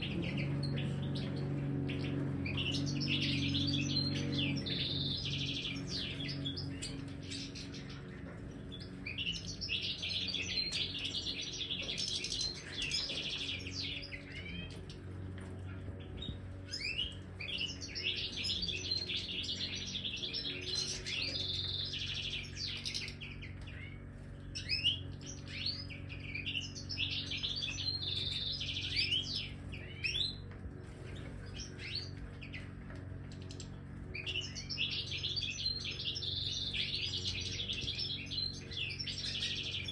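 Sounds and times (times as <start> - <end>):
goldfinches twittering and singing: 0.0 - 39.9.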